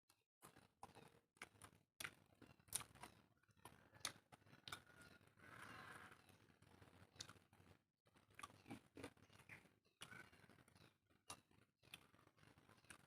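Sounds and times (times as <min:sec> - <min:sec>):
person chewing crunchy food: 0:00.4 - 0:13.0.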